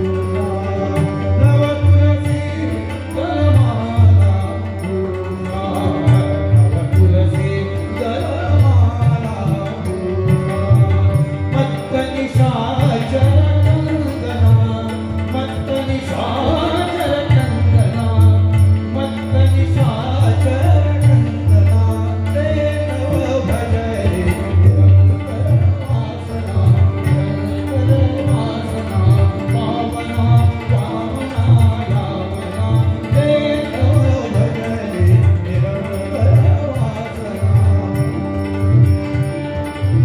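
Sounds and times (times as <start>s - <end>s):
harmonium and organ drones: 0.0s - 40.0s
man singing: 0.0s - 40.0s
tabla strokes: 0.0s - 40.0s.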